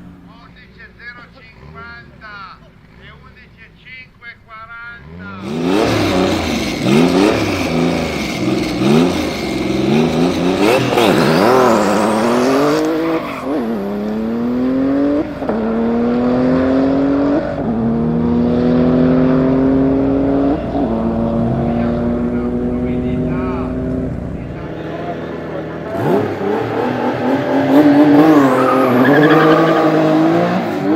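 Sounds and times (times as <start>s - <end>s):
car engine revving and accelerating: 5.0s - 30.9s.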